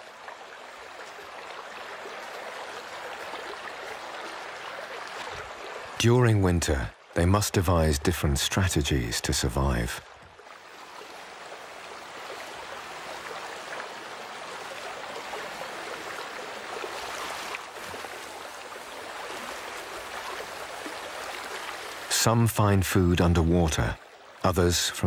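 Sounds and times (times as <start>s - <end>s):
river water rushing and babbling: 0.0s - 25.0s.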